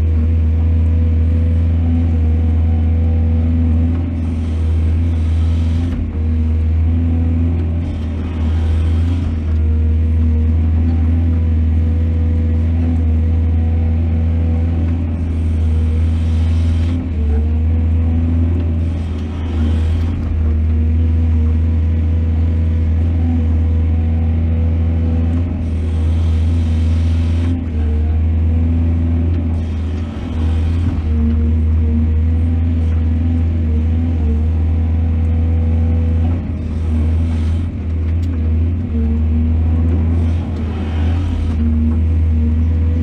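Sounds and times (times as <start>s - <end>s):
diesel engine humming: 0.0s - 43.0s.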